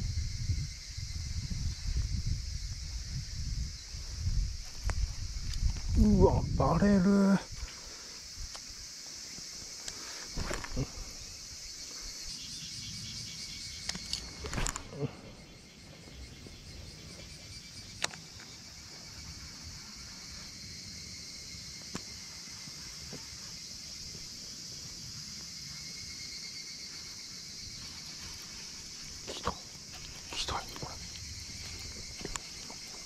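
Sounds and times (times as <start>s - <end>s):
insects buzzing: 0.0s - 33.0s.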